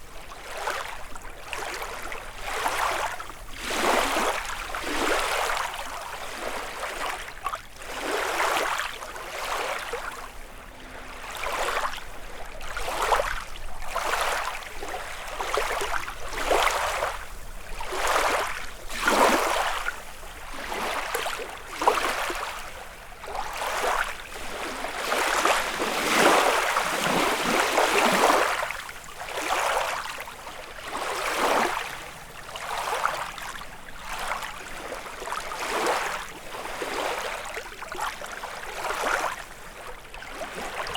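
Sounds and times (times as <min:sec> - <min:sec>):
waves lapping on shore: 0:00.0 - 0:40.9.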